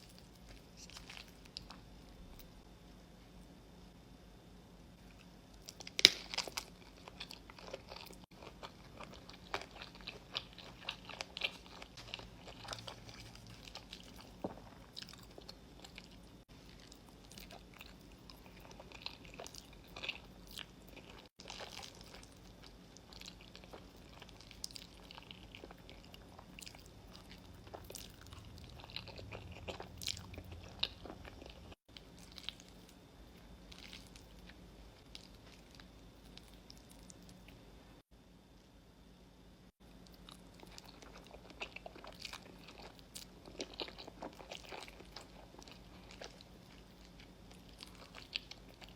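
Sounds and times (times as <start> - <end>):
crunchy chewing: 0.0 - 2.6, 5.0 - 37.6, 39.9 - 48.9.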